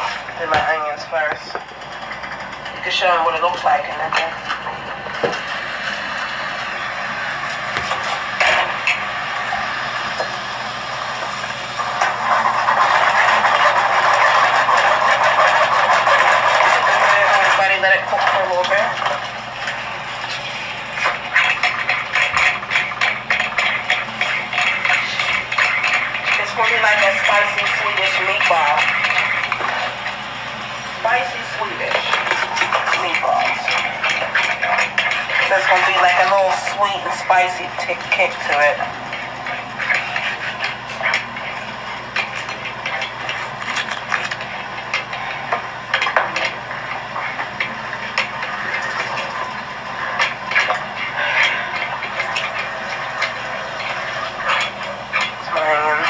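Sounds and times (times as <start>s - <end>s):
crackles and clicks: 0.0s - 56.0s
onions sizzling in a pan: 4.5s - 56.0s.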